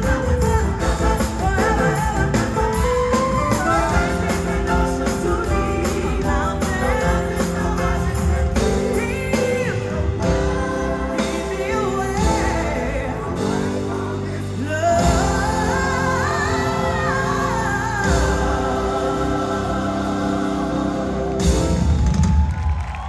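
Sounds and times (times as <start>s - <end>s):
gospel singers with band: 0.0s - 23.0s.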